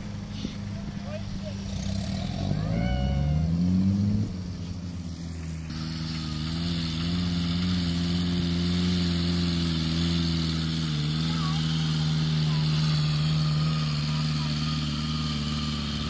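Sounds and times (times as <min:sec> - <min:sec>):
engine revving and droning: 0:00.0 - 0:16.0.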